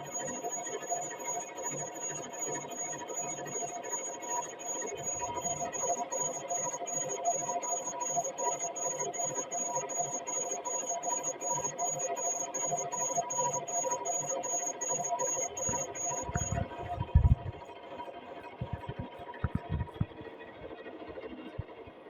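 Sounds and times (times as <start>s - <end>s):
machine tool whine: 0.0s - 22.0s.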